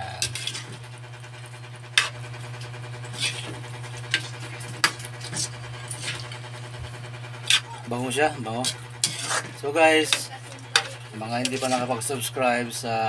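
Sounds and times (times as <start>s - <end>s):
spatula scraping metal wok: 0.0s - 0.8s, 1.9s - 6.6s, 7.3s - 12.6s
liquid simmering: 0.0s - 12.3s
steady low hum: 0.0s - 13.0s.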